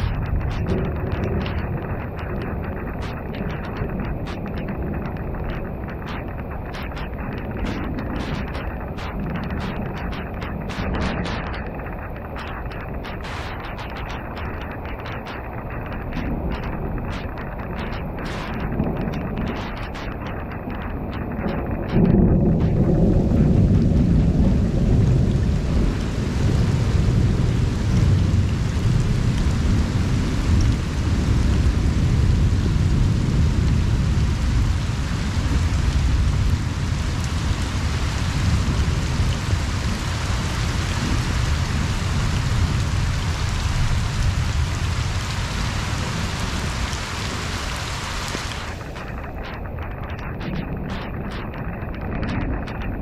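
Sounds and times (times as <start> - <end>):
heavy rain on pond water: 0.0 - 53.0
thunder rumbling: 0.0 - 53.0.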